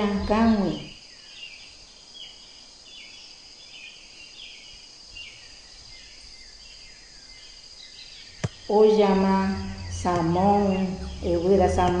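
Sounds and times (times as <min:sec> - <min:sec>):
bird chirping: 0:00.0 - 0:12.0
high insect drone: 0:00.0 - 0:12.0.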